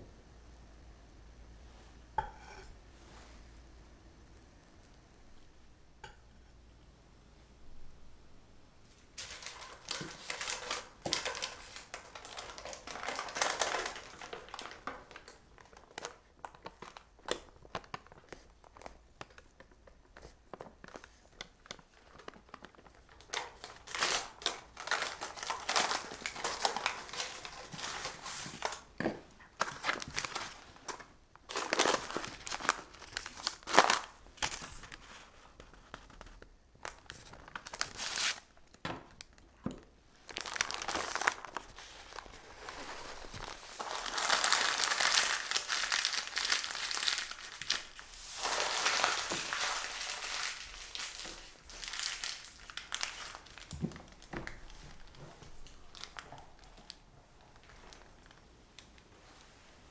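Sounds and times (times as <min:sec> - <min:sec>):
parchment paper crinkling: 0:08.9 - 0:59.9.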